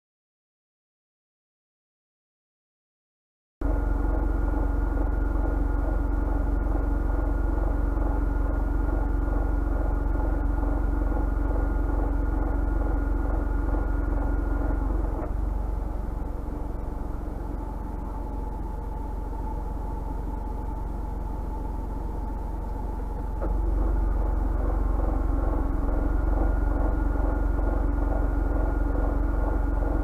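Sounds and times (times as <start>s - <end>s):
air conditioning two-tone drone: 3.6s - 30.0s
car engine running: 3.6s - 30.0s.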